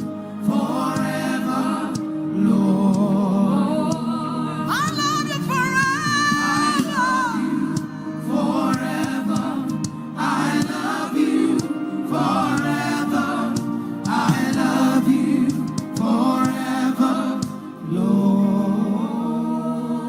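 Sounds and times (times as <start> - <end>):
low keyboard accompaniment: 0.0 - 20.0
voices singing gospel: 0.0 - 20.0.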